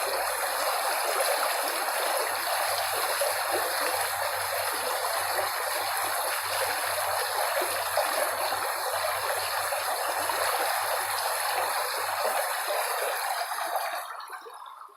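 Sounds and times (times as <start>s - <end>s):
stream water rushing: 0.0s - 14.1s.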